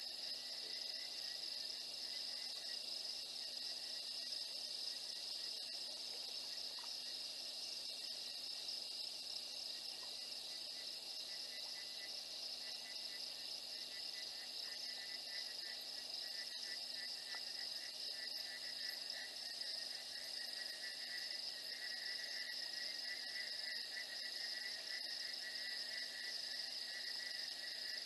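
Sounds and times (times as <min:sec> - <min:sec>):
high insect trill: 0:00.0 - 0:28.0
low pulsing insect trill: 0:00.0 - 0:28.0.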